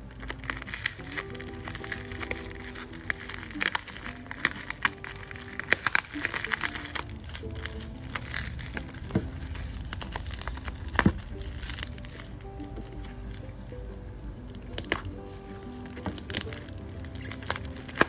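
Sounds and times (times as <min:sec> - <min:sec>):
bubble wrap crackling: 0:00.0 - 0:18.0.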